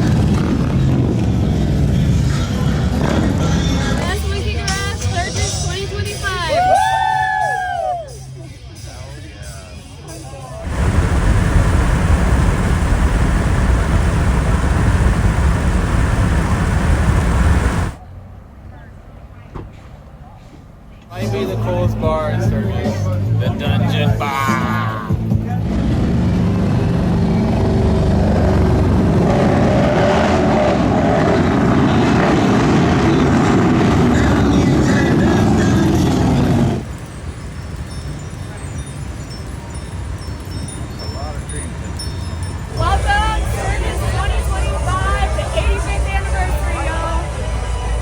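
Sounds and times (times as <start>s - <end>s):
rumble of motor vehicles: 0.0s - 7.1s, 8.0s - 48.0s.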